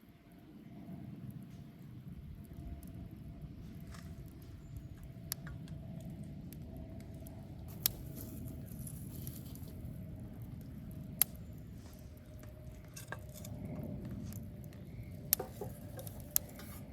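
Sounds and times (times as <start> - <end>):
bonfire flames rumbling: 0.4 - 16.9
burning wood crackling and popping: 0.6 - 16.9.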